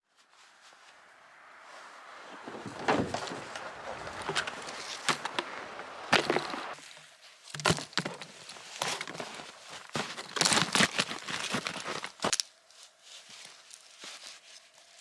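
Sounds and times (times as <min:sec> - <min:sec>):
snowshoe footsteps crunching snow: 0:00.1 - 0:15.0.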